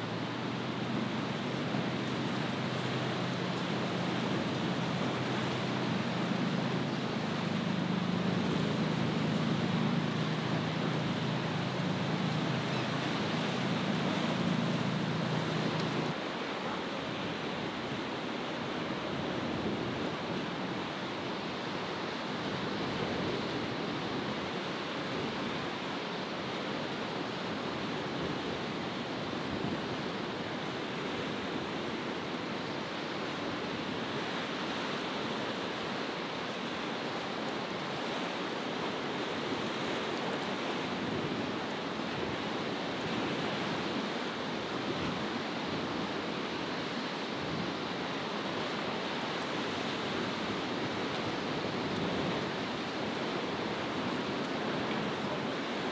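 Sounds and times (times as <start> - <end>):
waves breaking: 0.0 - 55.9
wind over sea: 0.0 - 55.9.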